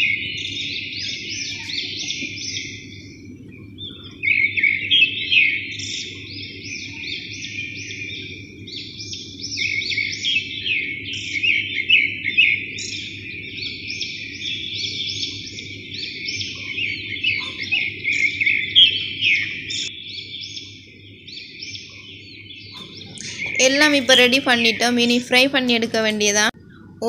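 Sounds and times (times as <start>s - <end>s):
low steady hum: 0.0s - 27.0s
small birds chirping chorus: 0.0s - 27.0s.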